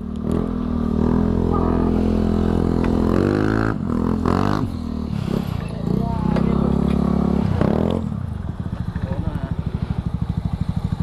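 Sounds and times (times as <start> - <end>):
motorcycle engine running and revving: 0.0 - 11.0.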